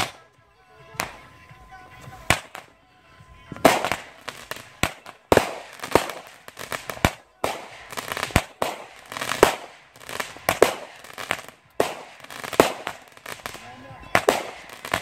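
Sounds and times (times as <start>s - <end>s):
fireworks bangs: 0.0s - 15.0s
fireworks hiss: 0.0s - 15.0s.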